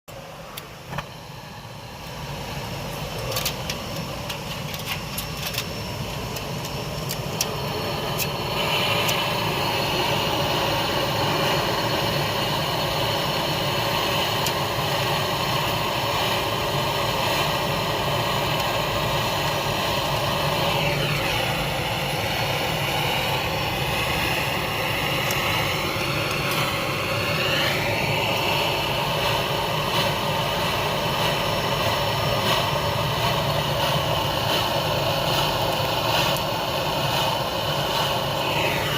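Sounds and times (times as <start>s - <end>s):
brazing torch flame roaring hiss: 0.1s - 38.9s.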